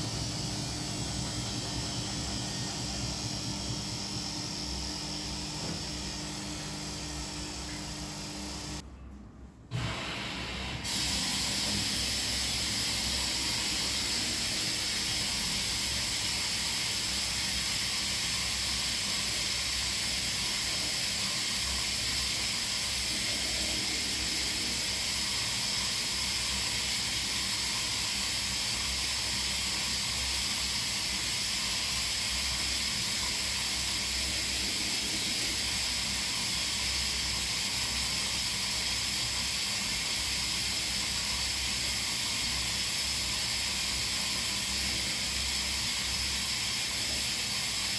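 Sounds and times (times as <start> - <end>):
water rushing into washing machine: 0.0 - 8.8, 9.7 - 47.9.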